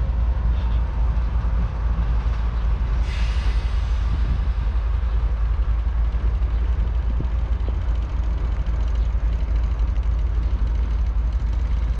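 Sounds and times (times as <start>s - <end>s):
distant diesel locomotive running: 0.0s - 12.0s
wind rumbling on microphone: 0.0s - 12.0s.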